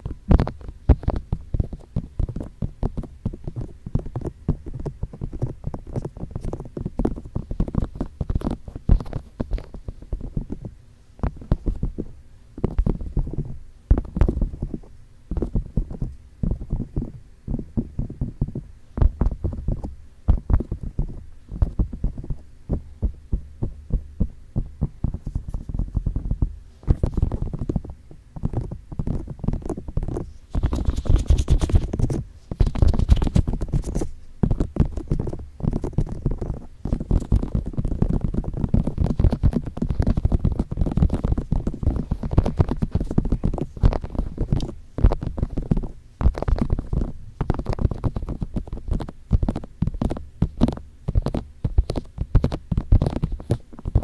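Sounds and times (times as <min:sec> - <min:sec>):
fingertips tapping on microphone: 0:00.0 - 0:54.0.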